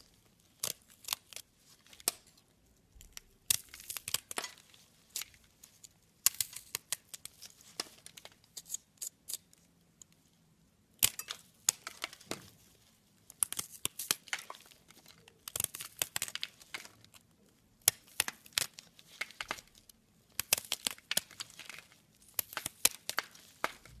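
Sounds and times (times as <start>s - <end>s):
craft knife crunching through soap: 0.0s - 9.7s, 13.2s - 24.0s.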